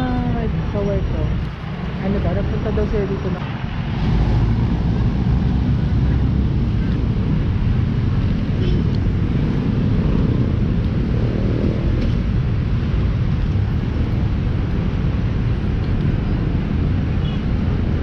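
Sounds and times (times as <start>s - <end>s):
city ambience rumble: 0.0s - 18.0s.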